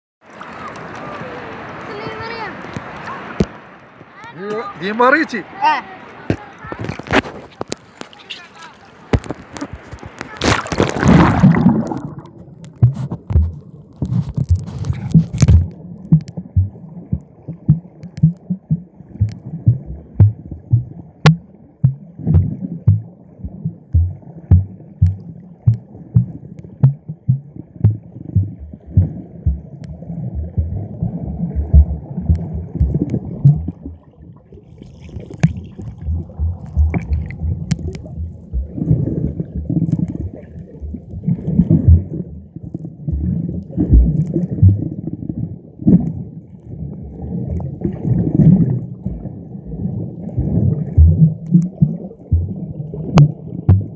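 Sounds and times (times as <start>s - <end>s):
muffled underwater thumping and gurgling: 9.1s - 53.9s.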